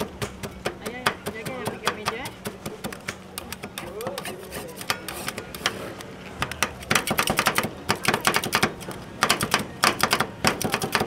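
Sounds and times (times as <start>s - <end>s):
rapid irregular clicking and tapping: 0.0s - 11.0s.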